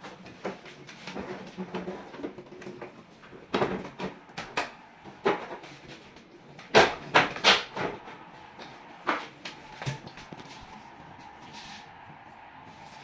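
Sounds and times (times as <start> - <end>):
objects knocking and clattering: 0.0 - 10.6.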